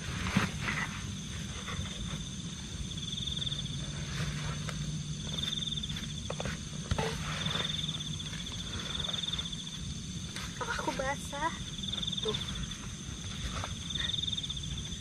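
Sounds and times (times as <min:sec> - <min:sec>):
insect pulsing trill: 0:00.0 - 0:15.0
high-pitched insect drone: 0:01.8 - 0:15.0.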